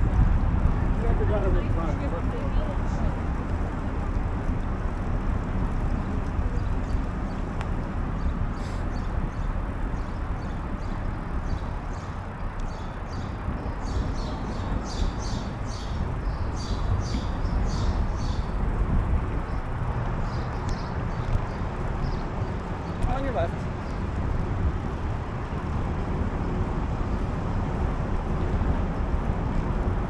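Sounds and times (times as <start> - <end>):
bicycle rolling noise: 0.0 - 30.0
wind: 0.0 - 30.0.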